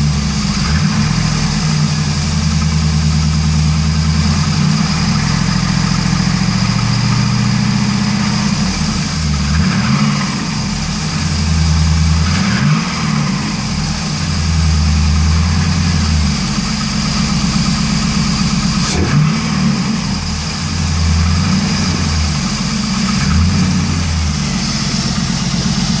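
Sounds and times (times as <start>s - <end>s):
car engine running and revving: 0.0s - 26.0s.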